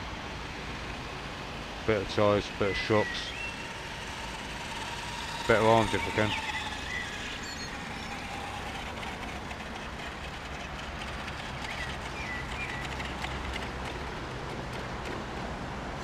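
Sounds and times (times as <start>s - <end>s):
toy truck motor running: 0.0s - 15.8s.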